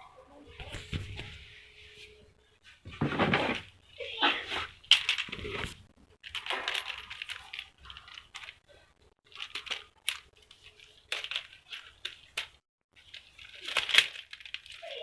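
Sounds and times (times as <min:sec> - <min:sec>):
crackling and rustling: 0:00.2 - 0:15.0.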